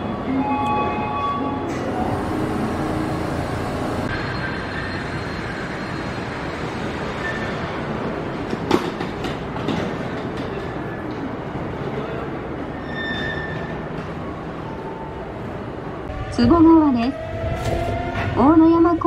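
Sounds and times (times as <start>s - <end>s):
monorail train running: 0.0s - 19.0s.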